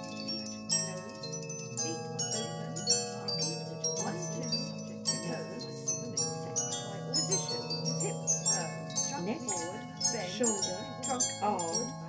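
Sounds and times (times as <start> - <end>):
bell-like tinkling melody: 0.0 - 12.0
held low tones: 0.0 - 12.0.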